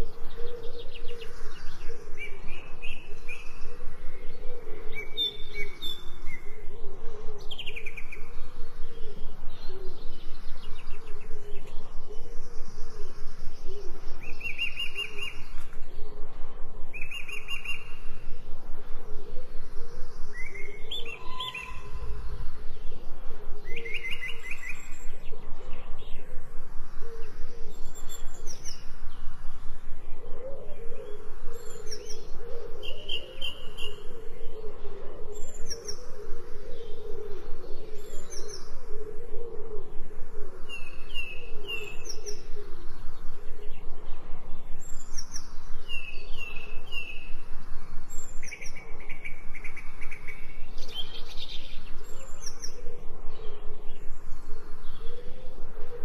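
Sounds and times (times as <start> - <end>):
birds chirping and trilling: 0.0 - 56.0
low fluttering background sound: 0.0 - 56.0.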